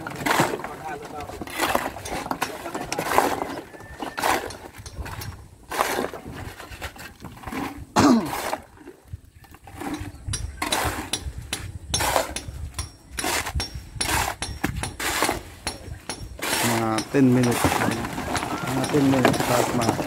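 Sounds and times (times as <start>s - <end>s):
knocks and clatters of buckets: 0.0s - 20.0s.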